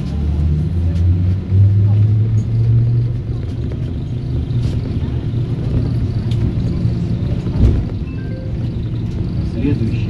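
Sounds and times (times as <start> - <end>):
trolleybus hum and rumble: 0.0 - 10.0.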